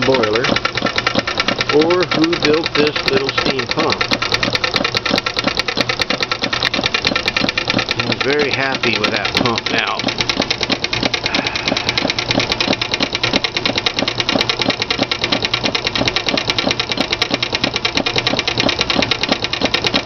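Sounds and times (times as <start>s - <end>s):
small steam engine ticking: 0.0s - 20.0s
steam feed pump stroke: 0.0s - 20.0s.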